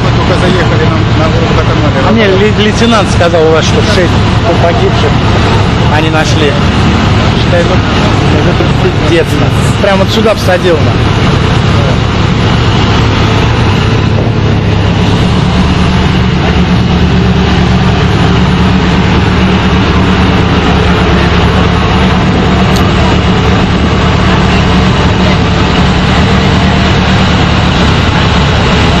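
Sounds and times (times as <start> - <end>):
road noise: 0.0 - 29.0
vehicle engine running: 0.0 - 29.0.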